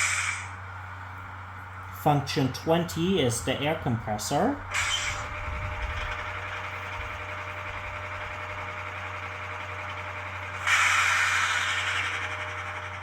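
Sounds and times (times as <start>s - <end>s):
air compressor hiss and chug: 0.0s - 13.0s
low idling hum: 0.0s - 13.0s.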